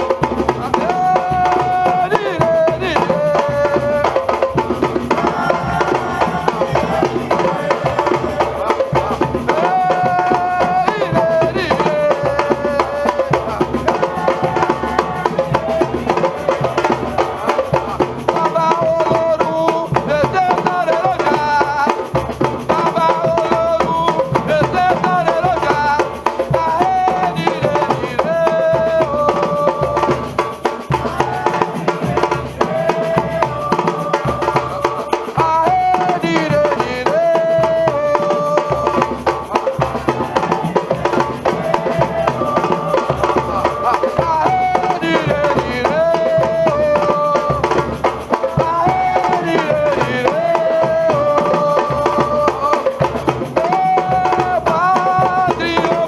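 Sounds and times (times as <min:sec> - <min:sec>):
drums and hand percussion: 0:00.0 - 0:56.0.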